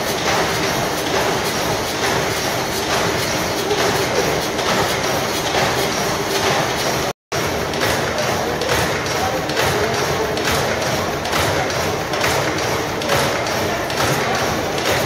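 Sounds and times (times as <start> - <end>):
steam engine rhythmic clatter: 0.0 - 15.0.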